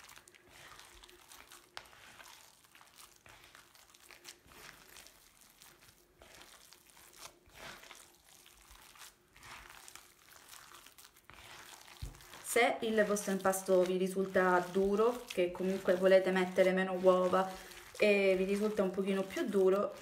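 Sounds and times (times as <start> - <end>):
hands kneading meat mixture: 0.0 - 20.0.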